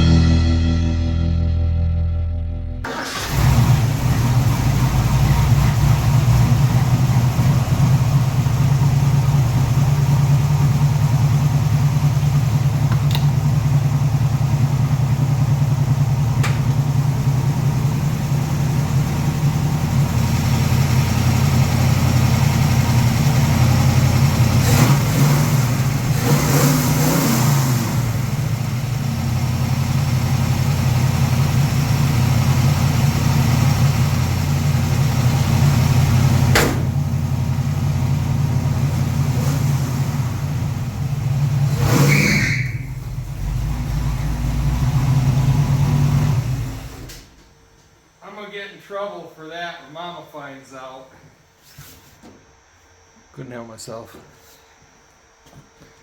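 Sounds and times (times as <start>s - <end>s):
car engine running: 0.0s - 47.4s.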